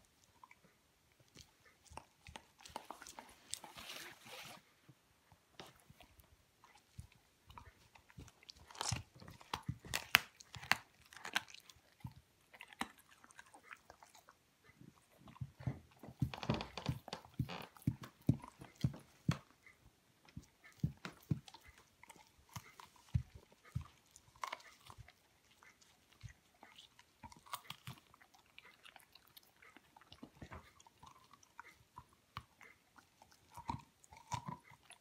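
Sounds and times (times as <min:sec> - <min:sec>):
dog crunching on bone: 0:00.2 - 0:04.2, 0:05.6 - 0:19.7, 0:20.3 - 0:35.0.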